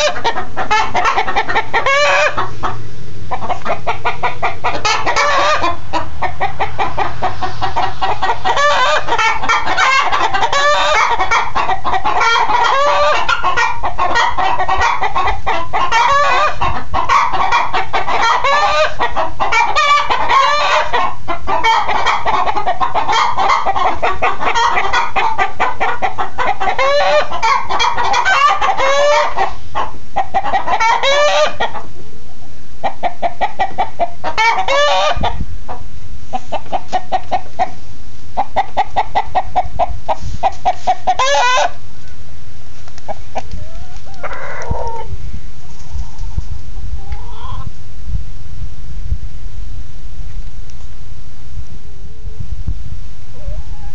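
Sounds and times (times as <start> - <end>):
chickens clucking: 0.0 - 47.8, 53.4 - 53.9.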